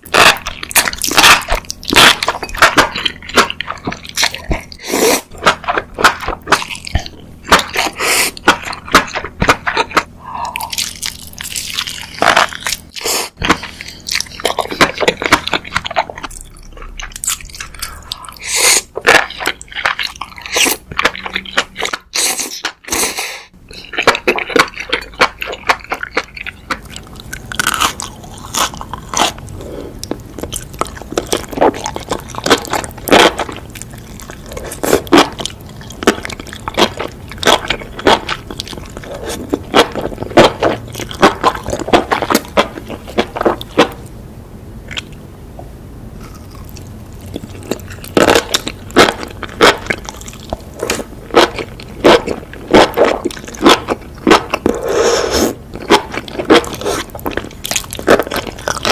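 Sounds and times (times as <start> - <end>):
crunching and chewing mushrooms: 0.0 - 44.1, 46.2 - 58.9.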